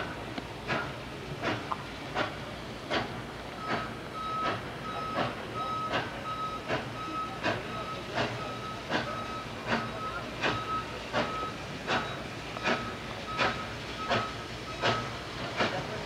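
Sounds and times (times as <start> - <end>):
steam locomotive exhaust chuffs: 0.0 - 16.0.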